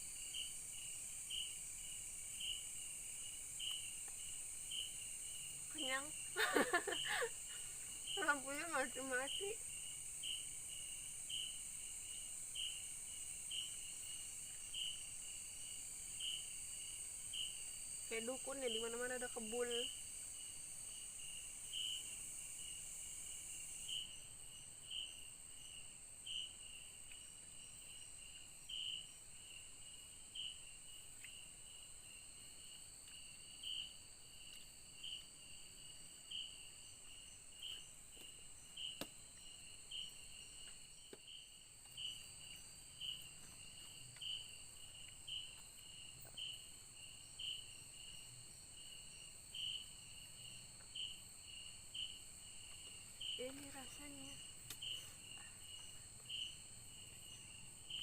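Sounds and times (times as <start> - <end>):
insects droning: 0.0 - 58.0
short insect chirp: 0.0 - 58.0.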